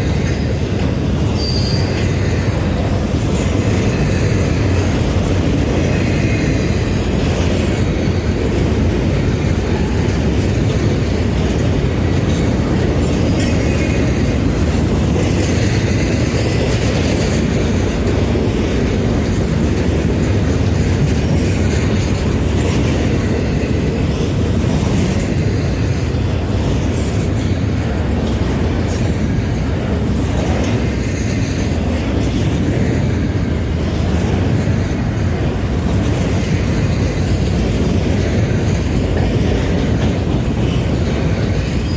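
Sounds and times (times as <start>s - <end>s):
train rumbling past on rails: 0.0s - 41.9s.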